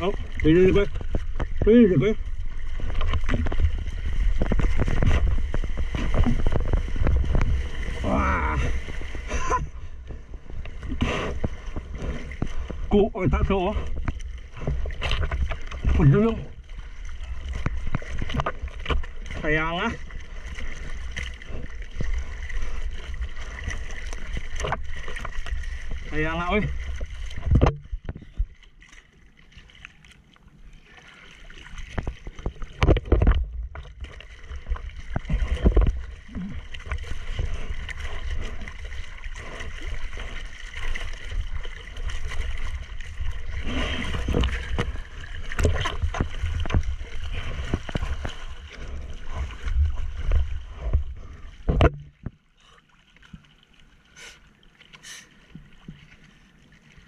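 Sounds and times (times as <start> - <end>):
water splashing over a surfboard: 0.0 - 57.0.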